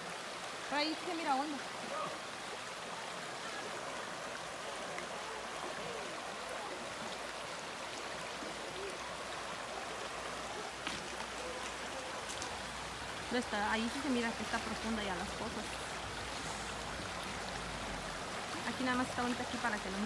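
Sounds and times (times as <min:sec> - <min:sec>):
water flowing over stones: 0:00.0 - 0:20.0.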